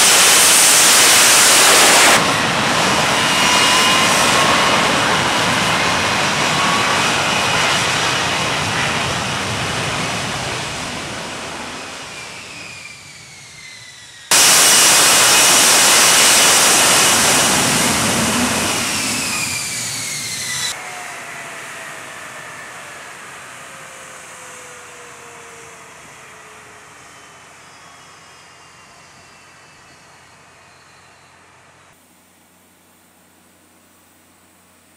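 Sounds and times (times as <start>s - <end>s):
jet engine roar with falling whine: 0.0s - 32.0s.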